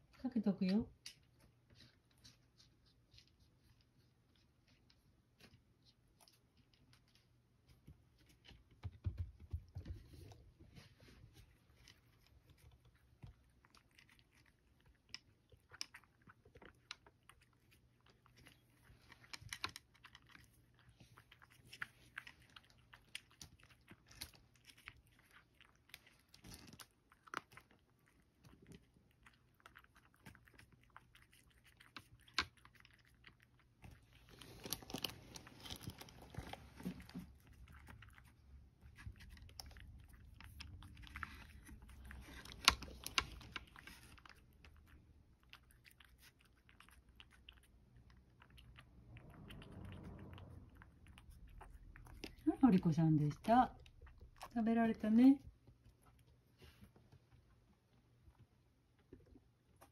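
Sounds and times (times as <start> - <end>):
cat crunching dry kibble: 10.1 - 59.9.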